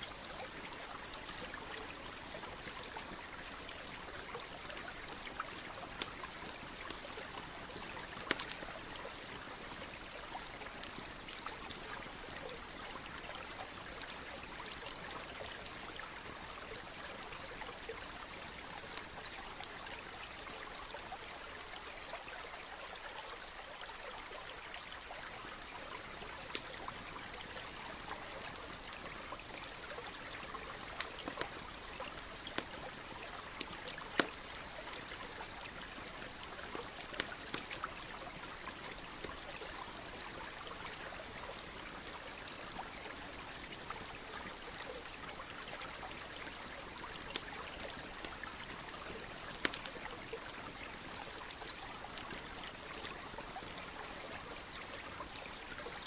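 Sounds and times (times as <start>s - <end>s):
campfire crackling and popping: 0.0s - 22.9s, 25.0s - 56.0s
stream running: 0.0s - 56.0s.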